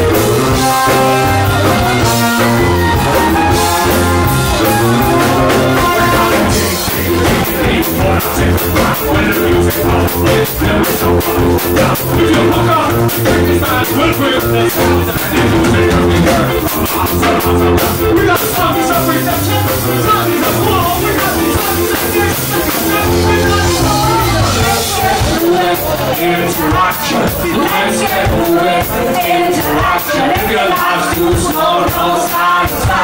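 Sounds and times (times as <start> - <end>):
live ska band playing: 0.0 - 33.0
male lead vocal: 0.0 - 33.0.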